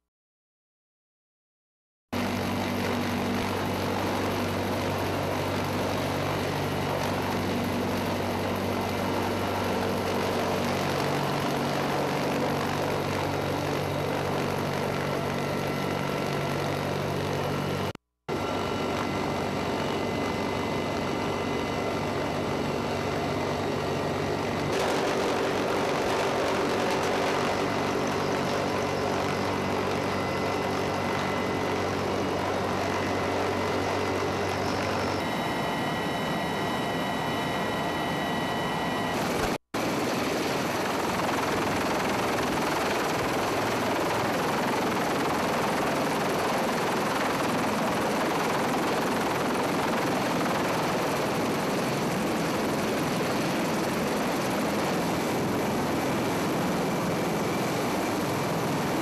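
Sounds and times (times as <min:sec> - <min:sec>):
aircraft engines droning: 0:02.2 - 0:59.0.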